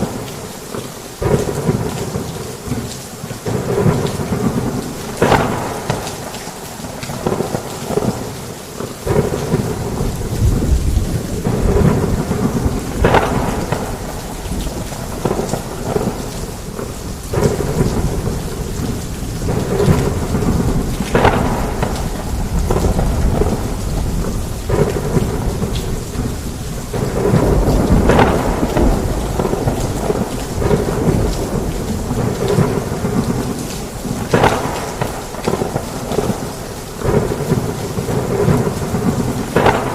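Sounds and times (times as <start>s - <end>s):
heavy rain pouring: 0.0s - 39.9s
thunder rumbling: 3.4s - 39.9s
thunder cracks: 3.5s - 8.4s, 9.0s - 39.9s.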